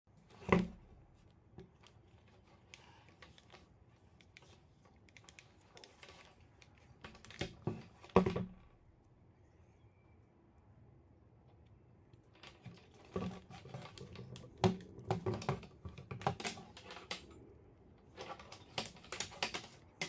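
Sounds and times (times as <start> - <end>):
cord rustling: 0.1 - 9.0, 12.1 - 20.0.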